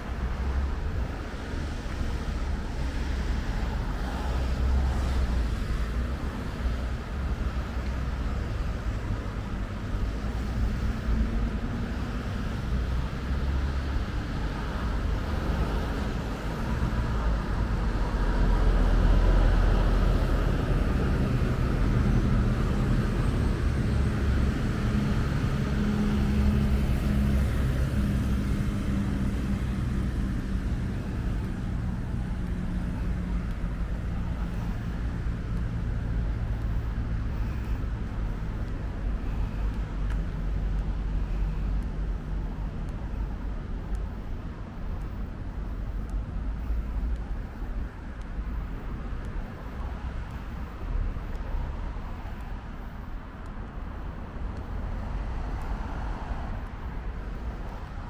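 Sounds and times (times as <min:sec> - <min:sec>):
road traffic rumble: 0:00.0 - 0:58.0
vehicles passing: 0:00.0 - 0:58.0.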